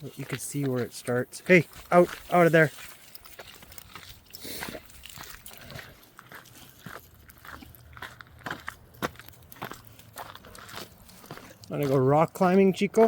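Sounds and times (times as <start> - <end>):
crunches on path: 0.0 - 13.0.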